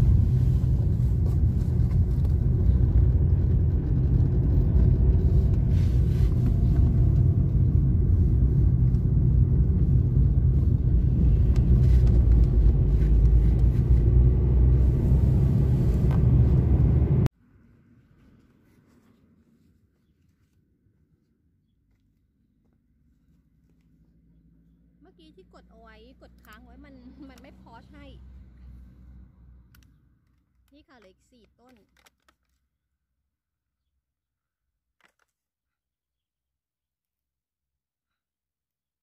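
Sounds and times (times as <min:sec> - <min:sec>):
car road and engine rumble: 0:00.0 - 0:32.3.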